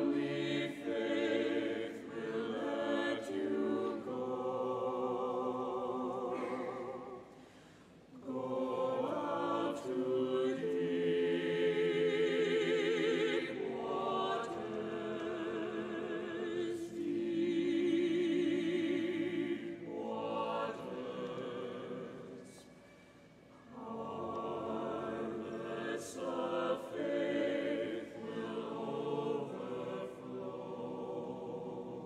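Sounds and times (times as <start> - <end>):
church choir singing a hymn: 0.0 - 22.8, 23.5 - 32.0.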